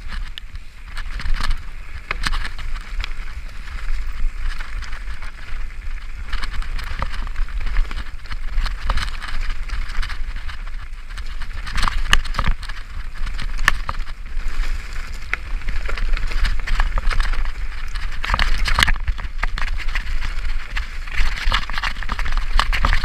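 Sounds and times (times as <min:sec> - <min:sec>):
bike clicking and rattling: 0:00.0 - 0:23.0
wind on microphone: 0:00.0 - 0:23.0.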